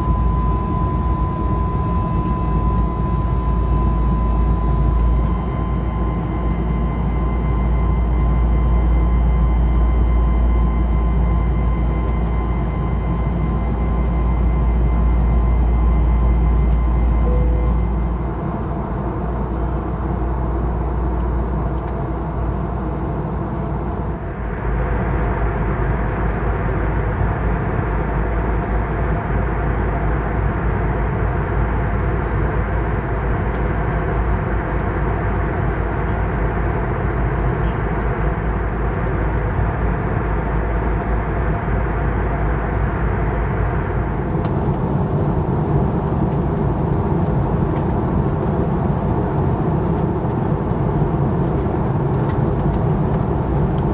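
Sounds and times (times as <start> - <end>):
jet engine roar in cabin: 0.0 - 53.9.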